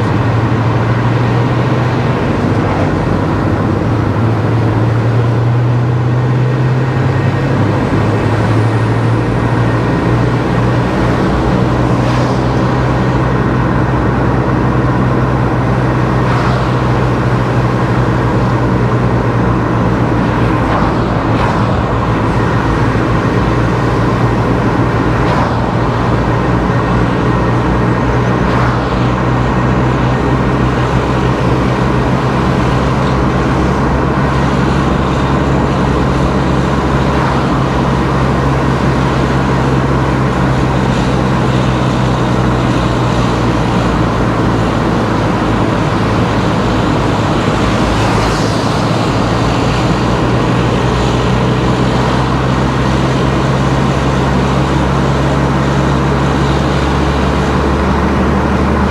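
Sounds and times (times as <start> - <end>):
car engine and tyre noise: 0.0 - 58.9
constant low hum: 0.0 - 58.9.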